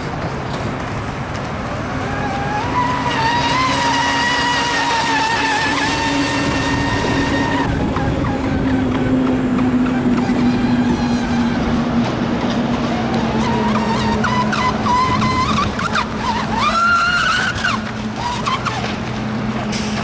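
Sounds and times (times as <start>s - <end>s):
speedboat motor whine: 0.0s - 20.0s.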